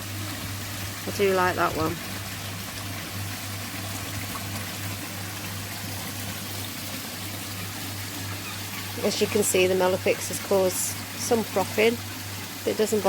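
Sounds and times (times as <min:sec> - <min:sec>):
water running and splashing: 0:00.0 - 0:13.0.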